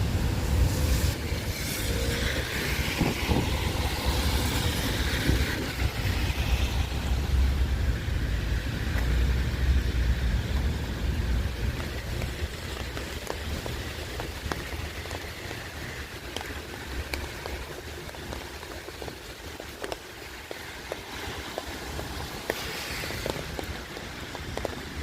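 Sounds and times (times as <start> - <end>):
tyres hissing on wet road: 0.0 - 25.0
wind buffeting microphone: 0.0 - 25.0.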